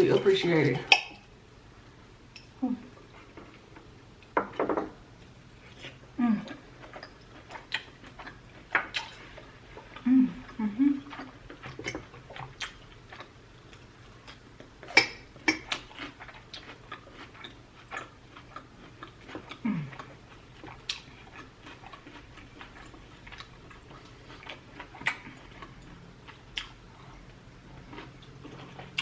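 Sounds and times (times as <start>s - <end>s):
steak being chewed: 5.2s - 29.0s.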